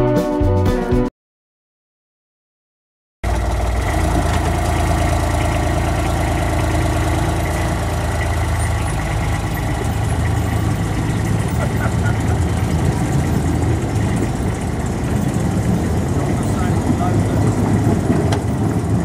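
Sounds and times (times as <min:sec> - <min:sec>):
diesel locomotive engine running: 0:03.2 - 0:19.0.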